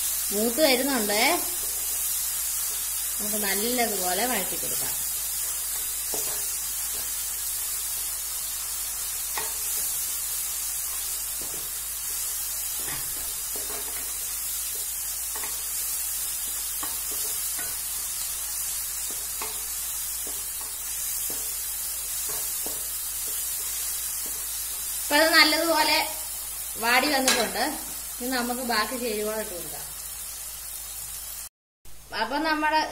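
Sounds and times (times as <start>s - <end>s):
onions sizzling in oil: 0.0s - 32.9s.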